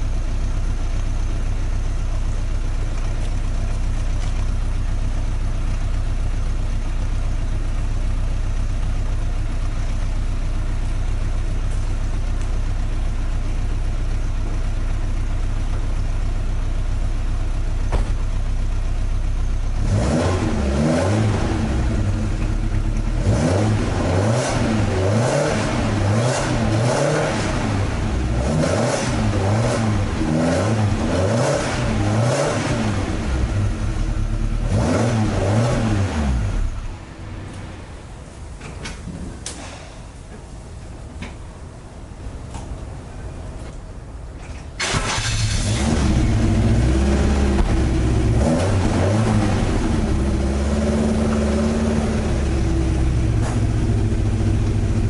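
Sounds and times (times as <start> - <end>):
car engine idling and revving: 0.0 - 39.6, 43.5 - 55.0.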